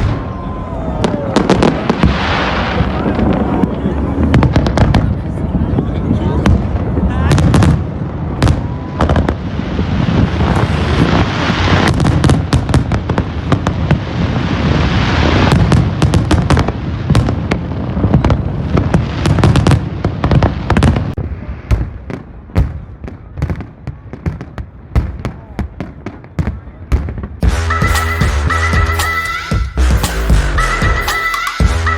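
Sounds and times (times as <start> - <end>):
fireworks bangs: 0.0 - 31.9
fireworks crackle: 0.0 - 31.9.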